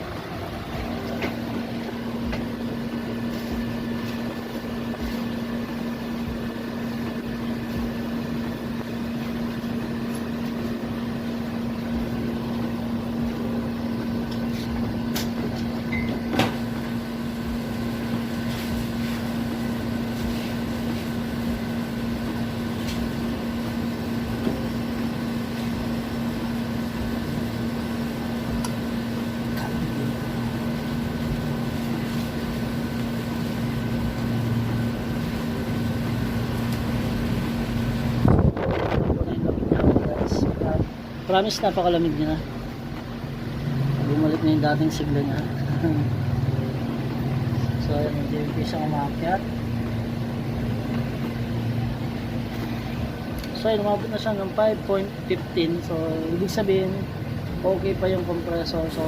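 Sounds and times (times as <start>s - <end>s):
air conditioner humming: 0.0s - 59.0s.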